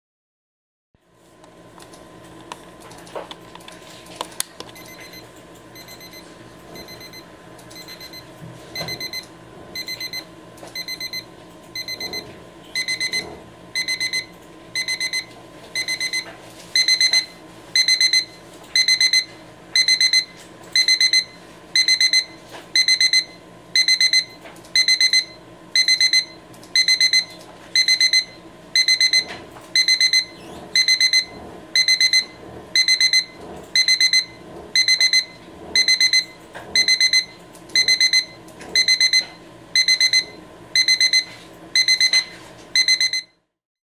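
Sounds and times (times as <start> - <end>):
alarm clock beeping: 4.8 - 5.2, 5.8 - 6.2, 6.8 - 8.2, 8.8 - 9.2, 9.8 - 10.2, 10.8 - 12.2, 12.8 - 43.4.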